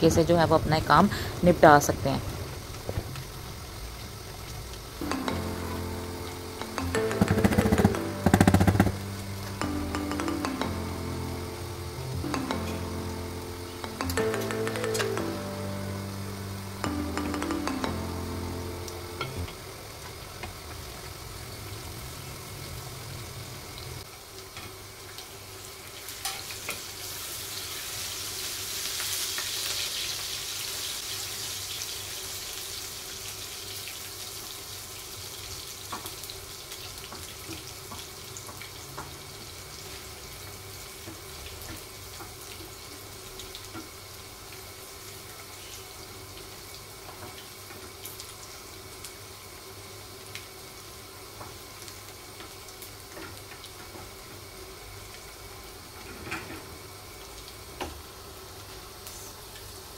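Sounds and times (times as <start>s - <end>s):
spices sizzling in ghee: 0.0s - 59.9s.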